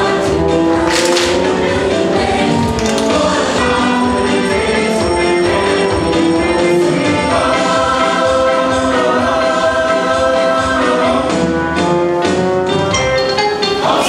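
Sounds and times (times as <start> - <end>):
choir singing with backing music: 0.0 - 14.0.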